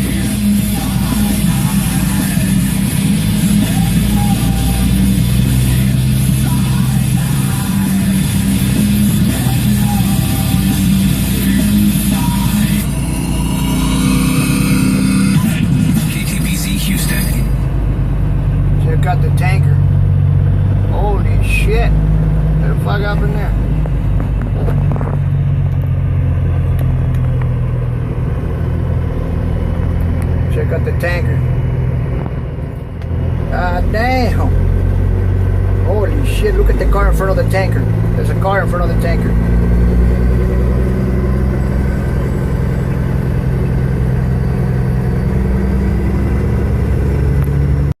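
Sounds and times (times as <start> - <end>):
road rumble: 0.0 - 48.0
vehicle engine humming: 0.0 - 48.0.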